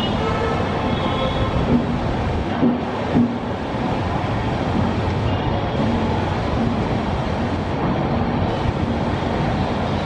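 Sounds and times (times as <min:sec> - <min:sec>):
moving passenger train: 0:00.0 - 0:10.0.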